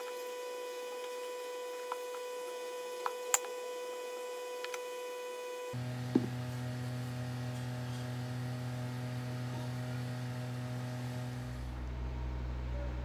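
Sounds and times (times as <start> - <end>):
electric motor hum: 0.0 - 12.7.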